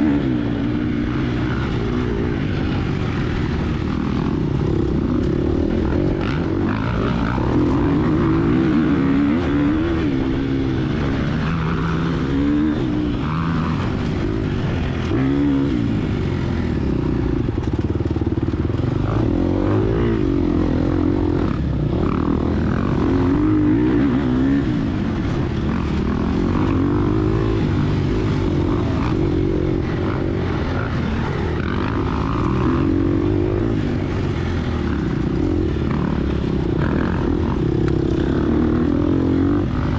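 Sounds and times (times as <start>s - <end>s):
dirtbike engine revving: 0.0s - 39.9s.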